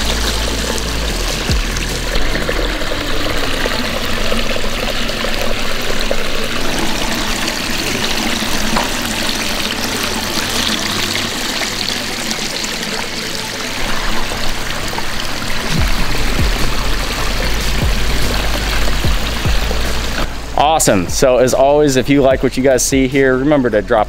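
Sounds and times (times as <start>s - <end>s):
water splashing over rocks: 0.0s - 20.6s.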